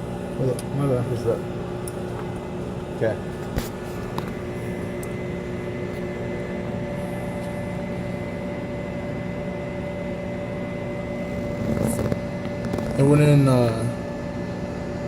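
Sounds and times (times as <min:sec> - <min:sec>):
machine-shop machinery hum: 0:00.0 - 0:15.0.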